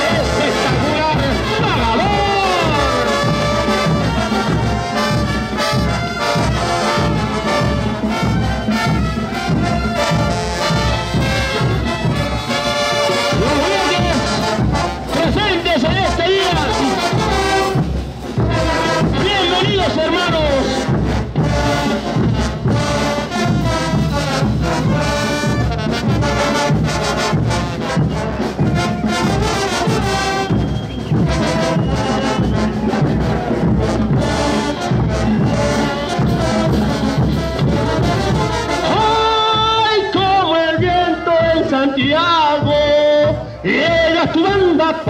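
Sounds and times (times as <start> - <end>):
steady drum beat: 0.0 - 45.0
trumpets and trombones: 0.0 - 45.0.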